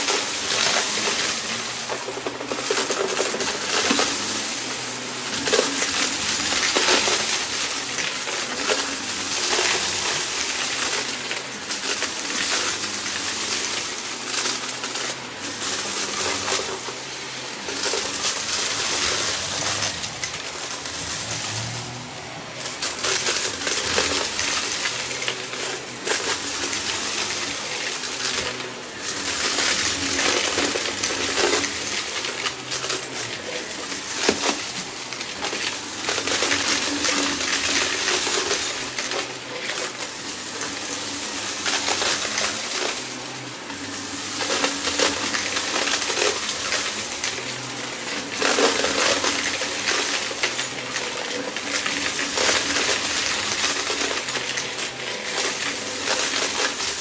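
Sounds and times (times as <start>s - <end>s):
debris rattling being sucked up: 0.0s - 57.0s
vacuum cleaner running over rug: 0.0s - 57.0s.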